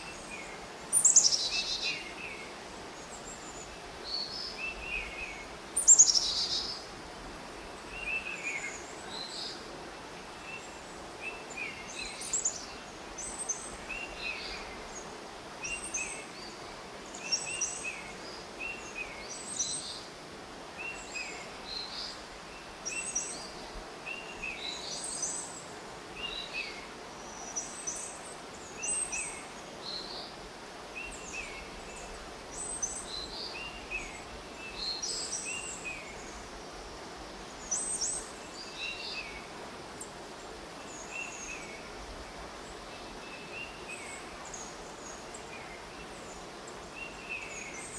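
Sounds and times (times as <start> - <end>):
steady background hiss: 0.0 - 47.9.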